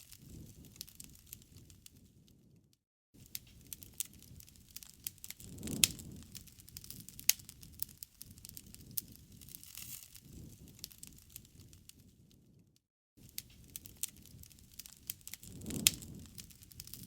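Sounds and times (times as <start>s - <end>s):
wood fire crackling: 0.0s - 2.6s, 3.2s - 12.6s, 13.2s - 17.0s.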